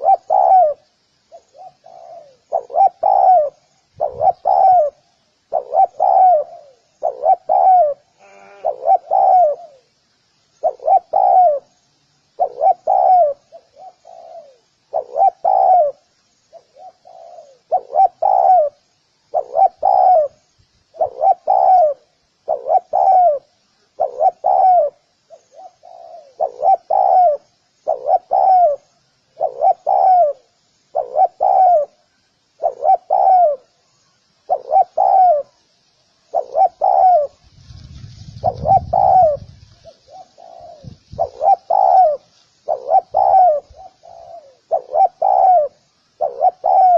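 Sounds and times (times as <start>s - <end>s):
dove cooing: 0.0s - 9.9s, 10.6s - 46.9s.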